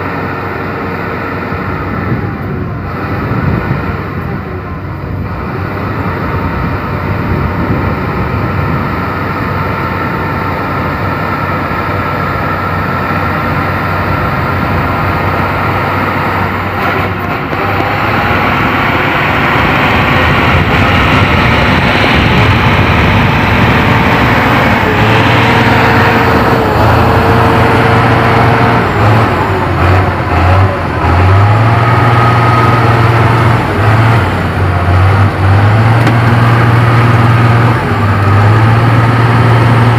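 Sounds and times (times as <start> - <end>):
heavy truck engine under load: 0.0 - 39.9.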